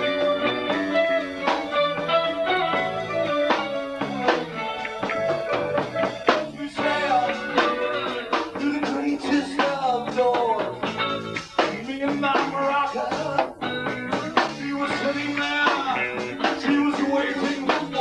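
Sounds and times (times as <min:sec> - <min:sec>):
guitar bass and drums band: 0:00.0 - 0:18.0
melodic guitar line: 0:00.0 - 0:18.0
steady drum beat: 0:00.0 - 0:18.0.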